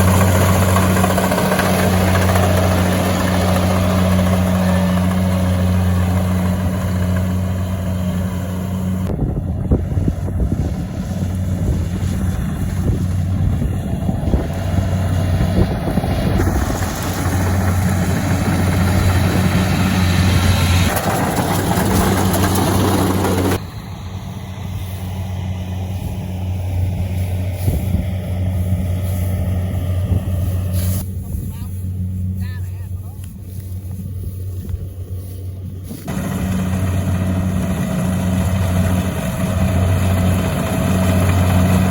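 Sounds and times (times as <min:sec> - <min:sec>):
small engine running: 0:00.0 - 0:41.9.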